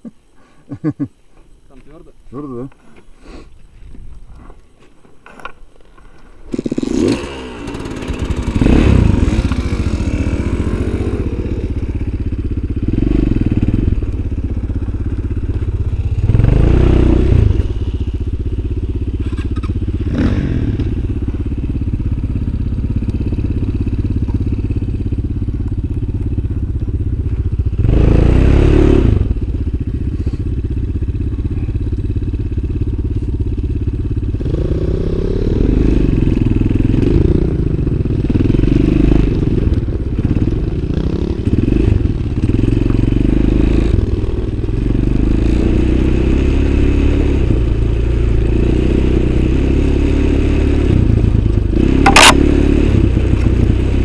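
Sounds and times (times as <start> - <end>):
off-road motorcycle engine revving: 6.5 - 54.0.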